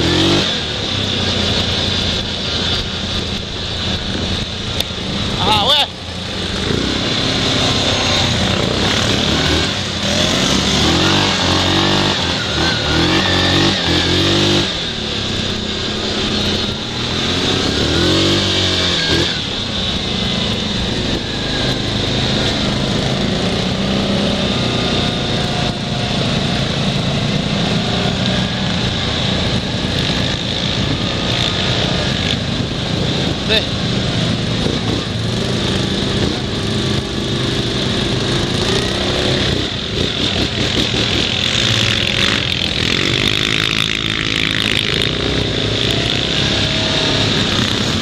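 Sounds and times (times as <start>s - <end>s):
quad bike engines revving: 0.0s - 48.0s.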